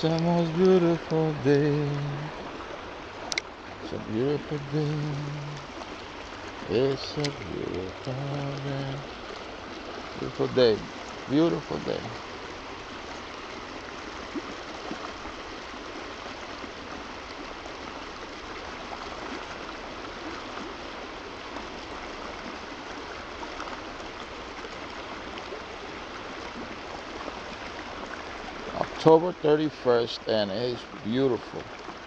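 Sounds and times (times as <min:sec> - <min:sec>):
flowing stream: 0:00.0 - 0:32.0.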